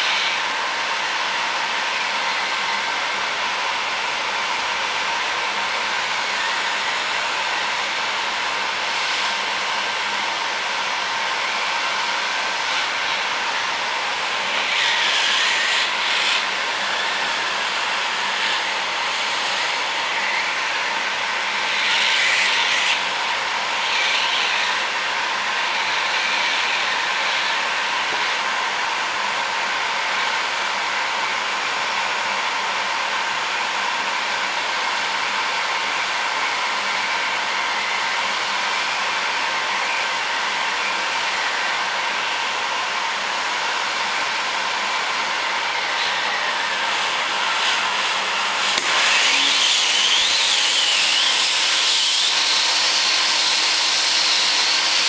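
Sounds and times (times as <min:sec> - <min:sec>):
heat gun blowing: 0:00.0 - 0:31.8, 0:34.4 - 0:55.0.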